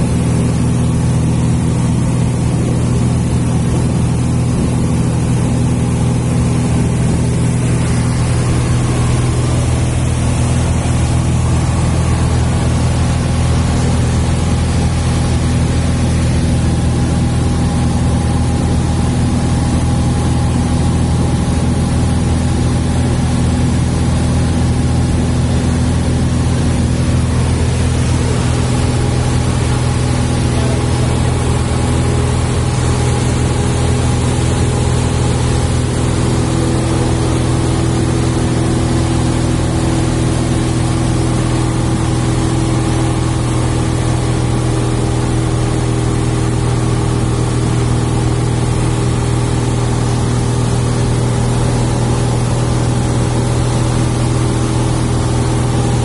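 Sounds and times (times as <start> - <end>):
airplane engine drone in cabin: 0.0 - 56.0.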